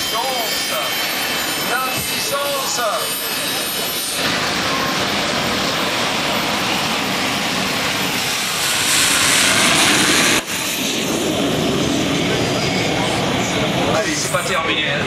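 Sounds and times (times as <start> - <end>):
turbine engine jet-like rush: 0.0 - 15.0.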